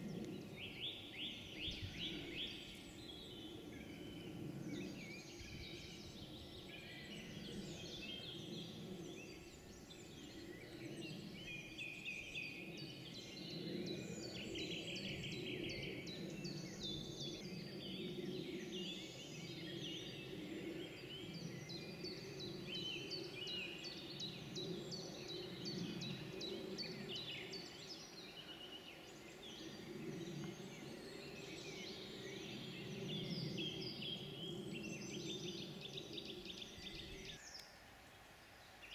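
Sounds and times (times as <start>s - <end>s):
birds singing: 0.0s - 38.9s.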